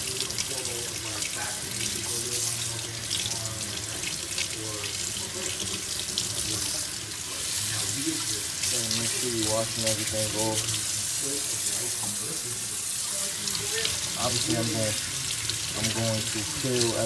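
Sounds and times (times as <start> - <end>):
faucet water splashing in sink: 0.0 - 17.0.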